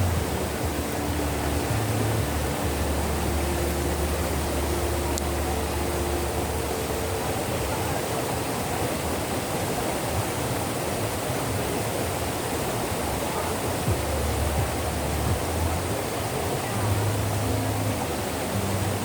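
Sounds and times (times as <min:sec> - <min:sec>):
waterfall roaring over rock: 0:00.0 - 0:19.0.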